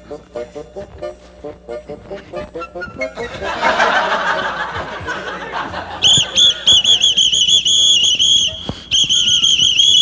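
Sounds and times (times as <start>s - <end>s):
whistle blowing: 0.1s - 10.0s.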